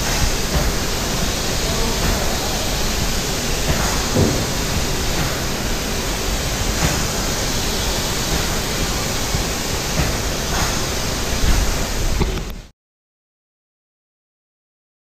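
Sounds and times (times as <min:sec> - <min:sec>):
spray gun hissing: 0:00.0 - 0:12.6
air rushing in spray booth: 0:00.0 - 0:12.7.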